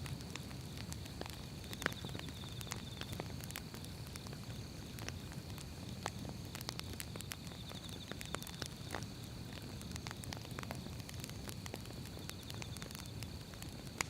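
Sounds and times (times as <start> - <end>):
burning logs crackling: 0.0 - 14.0
fire low rumble: 0.0 - 14.0.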